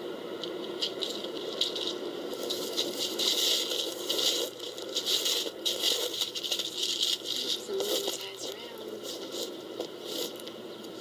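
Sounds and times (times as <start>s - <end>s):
dry bean pods rattling: 0.6s - 9.5s.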